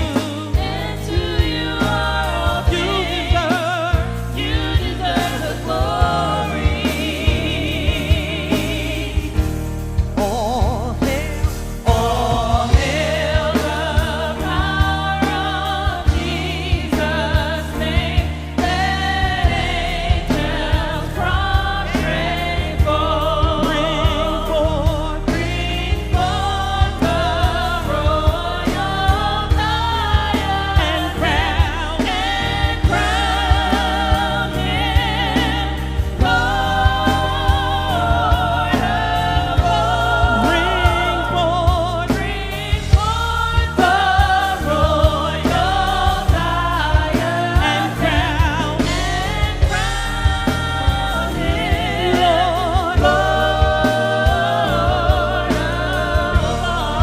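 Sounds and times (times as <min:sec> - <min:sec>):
choir singing with vibrato: 0:00.0 - 0:57.0
live band with bass and percussion: 0:00.0 - 0:57.0.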